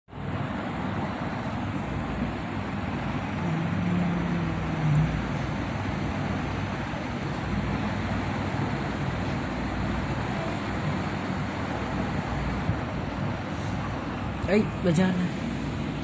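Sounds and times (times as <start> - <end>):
low steady hum: 0.1 - 16.0
rushing background noise: 0.1 - 16.0.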